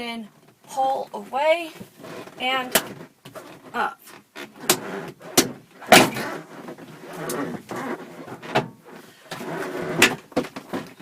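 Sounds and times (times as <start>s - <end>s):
plastic panel scraping and rattling: 2.0s - 11.0s.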